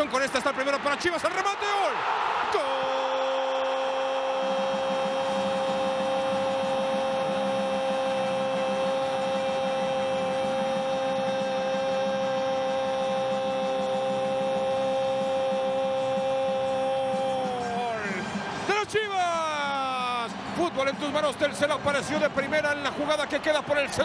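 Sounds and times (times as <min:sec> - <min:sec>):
stadium crowd cheering: 0:00.0 - 0:24.0.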